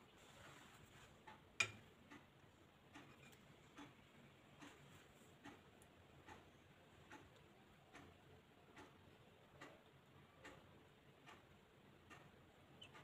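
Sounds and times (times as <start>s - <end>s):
faint ticks: 2.0s - 13.0s.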